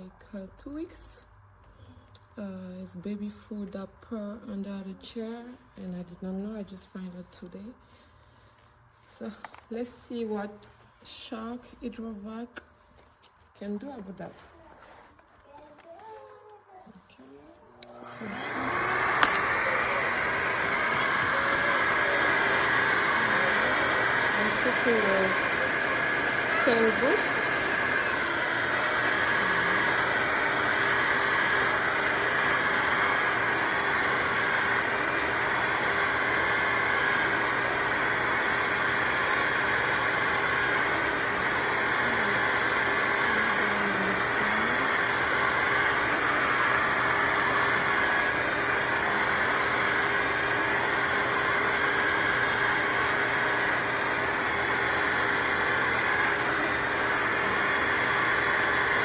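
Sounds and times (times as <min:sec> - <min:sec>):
vacuum mop running: 0:08.4 - 0:59.0.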